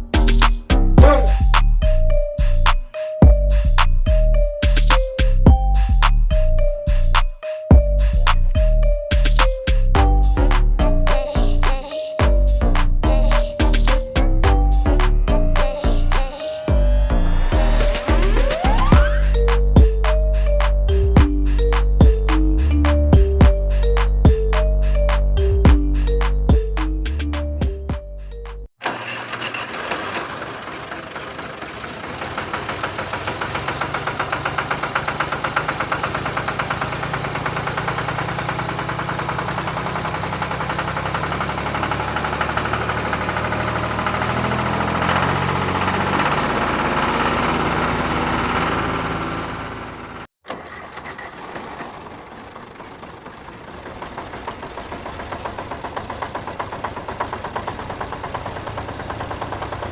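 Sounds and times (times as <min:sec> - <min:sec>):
quieter engine running: 0:00.0 - 0:59.9
vehicle engine pulsing: 0:00.0 - 0:59.9.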